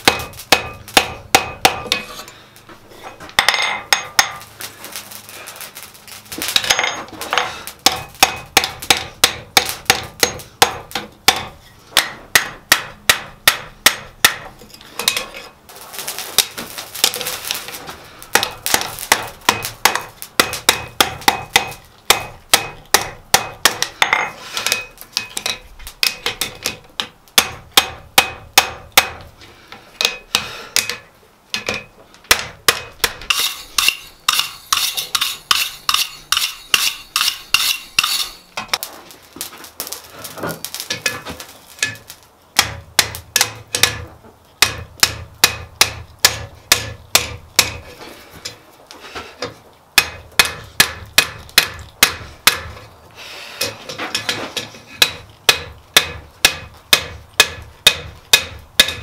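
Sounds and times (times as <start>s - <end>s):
hammer striking hot steel on anvil: 0.0s - 2.4s, 3.4s - 4.5s, 6.4s - 15.4s, 16.4s - 38.9s, 40.6s - 48.6s, 49.4s - 52.9s, 53.6s - 59.0s.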